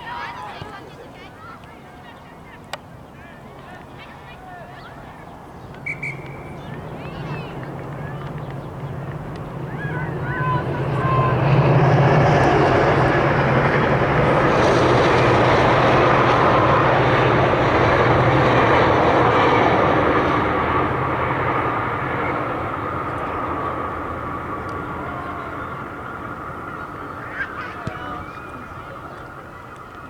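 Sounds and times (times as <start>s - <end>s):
aircraft engine noise: 5.4s - 30.0s.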